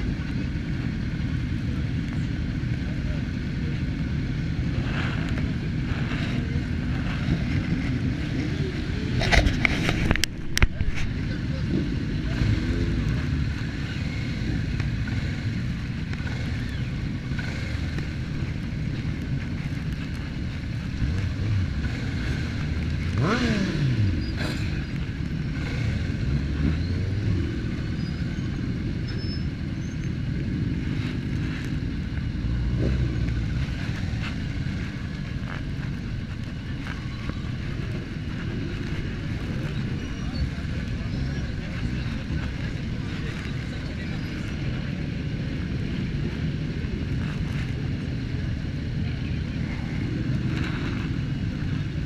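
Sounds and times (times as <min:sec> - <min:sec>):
motorcycle engine revving: 0:00.0 - 0:52.0
motorcycle engines idling: 0:00.0 - 0:52.0.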